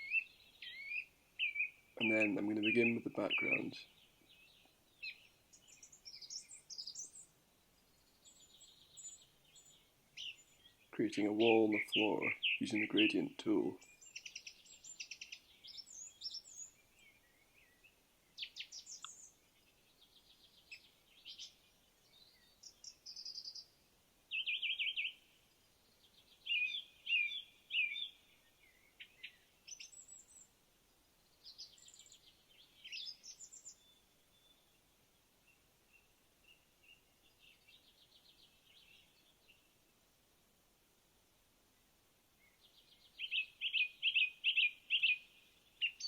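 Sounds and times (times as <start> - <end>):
birds chirping and trilling: 0.0 - 40.1, 42.4 - 46.0.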